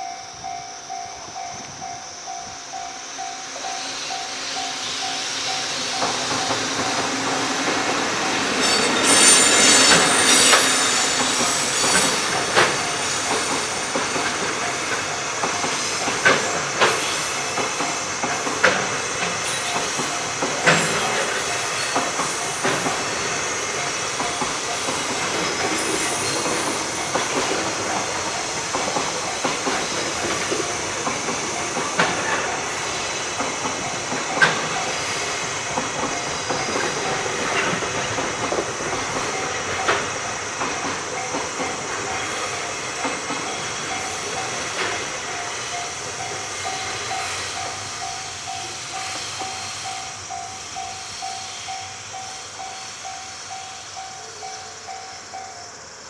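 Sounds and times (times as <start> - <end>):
train wheels rumbling on rail: 0.0 - 56.0
wheels clacking on rail joints: 3.6 - 55.8.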